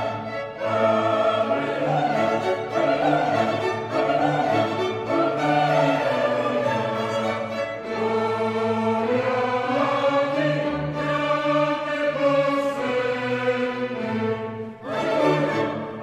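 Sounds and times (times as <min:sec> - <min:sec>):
choir singing a carol: 0:00.0 - 0:16.0.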